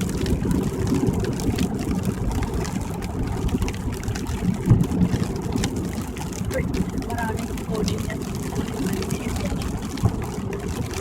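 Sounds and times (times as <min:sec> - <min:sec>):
faint ticks: 0:00.0 - 0:11.0
road and tyre noise in car: 0:00.0 - 0:11.0.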